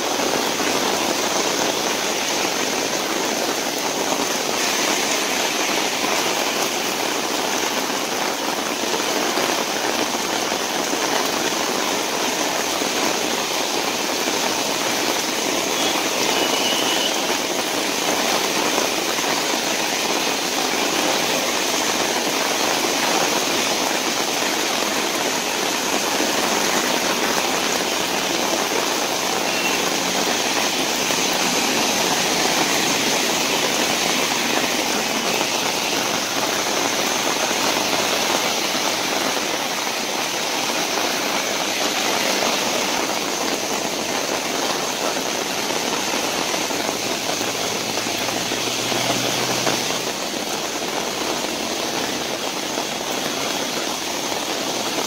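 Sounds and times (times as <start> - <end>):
heavy rain on wet road: 0.0 - 55.0.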